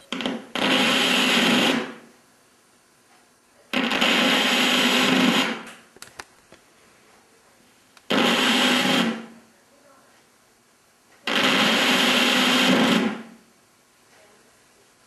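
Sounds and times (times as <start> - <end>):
television static hiss: 0.0 - 15.0.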